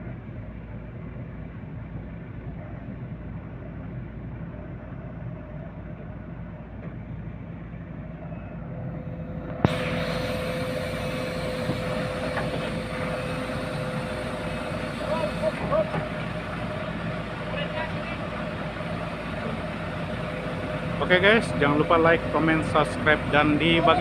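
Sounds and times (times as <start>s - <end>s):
diesel engine running at low revs: 0.0s - 24.0s
steady whine: 0.0s - 24.0s.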